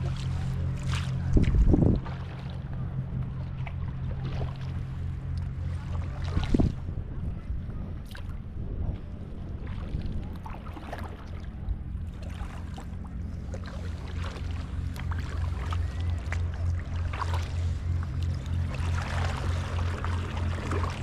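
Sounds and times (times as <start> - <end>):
paddle splashing in water: 0.0 - 6.8, 9.6 - 21.0
water slapping plastic hull: 0.0 - 6.8, 9.6 - 21.0
steady low hum: 0.0 - 21.0.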